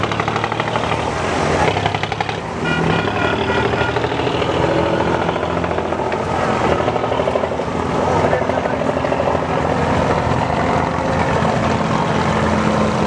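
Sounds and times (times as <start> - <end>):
boat diesel engine chugging: 0.0 - 13.0.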